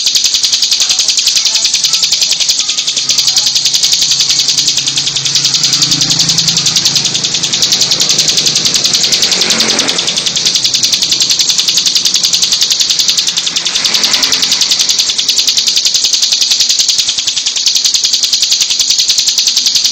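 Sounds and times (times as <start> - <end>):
bird singing a buzzy trill: 0.0 - 19.9.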